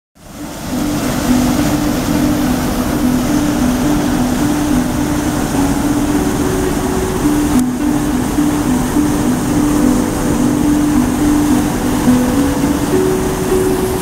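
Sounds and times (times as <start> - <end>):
floodwater rushing over a ledge: 0.2 - 14.0.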